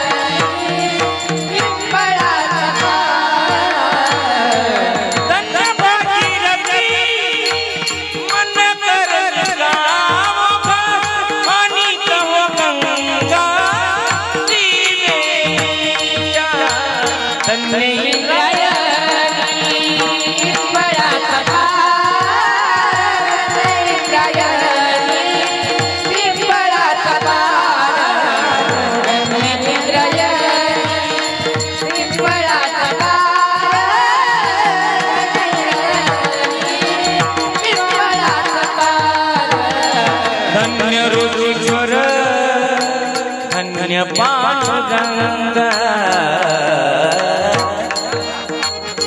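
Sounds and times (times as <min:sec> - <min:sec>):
voices singing a melody: 0:00.0 - 0:49.0.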